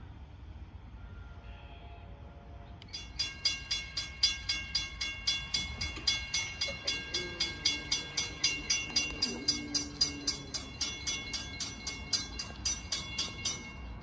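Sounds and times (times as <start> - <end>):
crossing warning bell clanging: 2.8 - 14.0.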